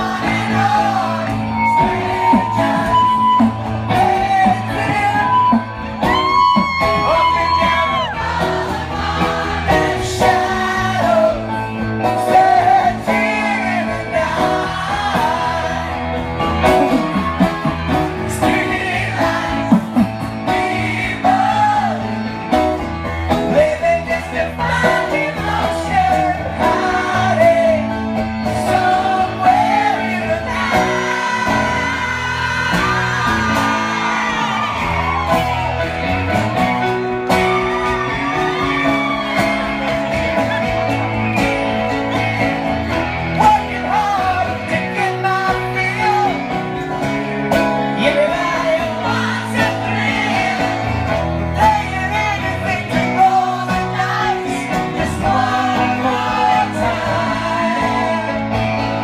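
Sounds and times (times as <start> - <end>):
men singing into microphones: 0.0 - 35.7, 42.1 - 59.0
electric guitar: 0.0 - 59.0
live rock band playing: 0.0 - 59.0.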